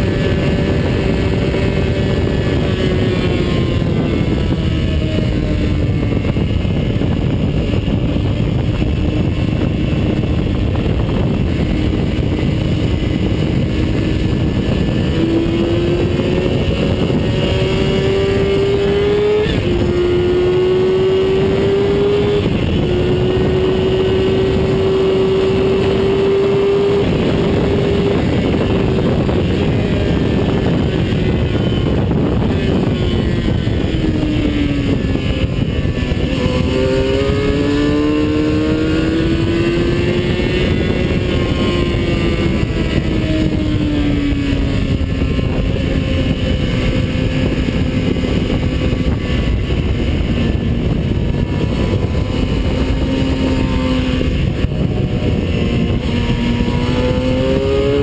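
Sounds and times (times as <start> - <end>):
vehicle engine at speed: 0.0 - 58.0
wind and road noise: 0.0 - 58.0.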